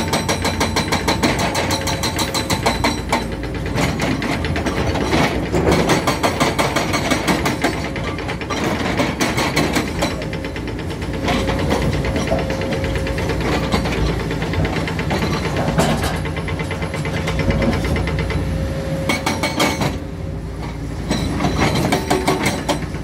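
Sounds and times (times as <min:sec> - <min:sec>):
excavator engine clattering: 0:00.0 - 0:23.0.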